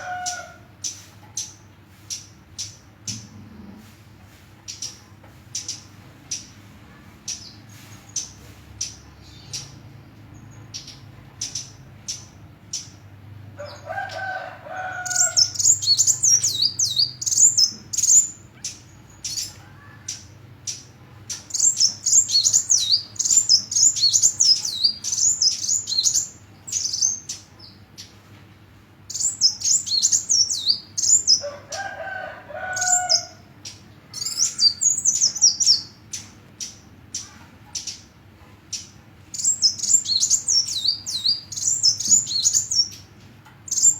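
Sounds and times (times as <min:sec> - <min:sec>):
sunbird chirping and warbling: 0:04.6 - 0:28.2, 0:29.1 - 0:43.9.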